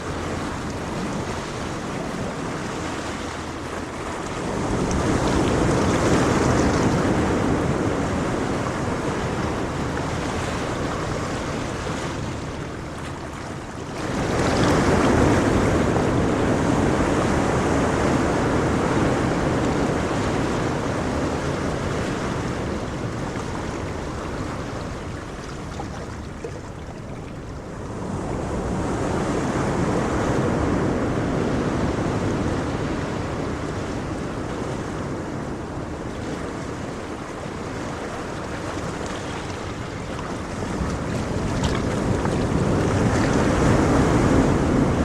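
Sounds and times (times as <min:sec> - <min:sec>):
ocean waves rushing and washing back: 0:00.0 - 0:45.0.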